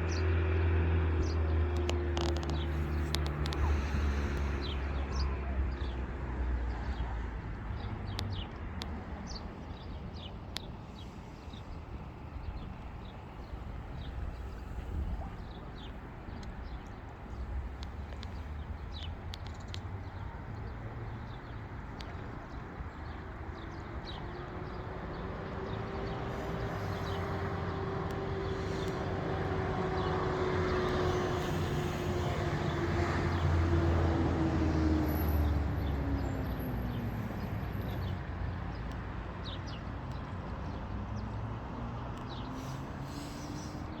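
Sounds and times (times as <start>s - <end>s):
vehicle approaching: 0.0s - 9.9s, 10.5s - 44.0s.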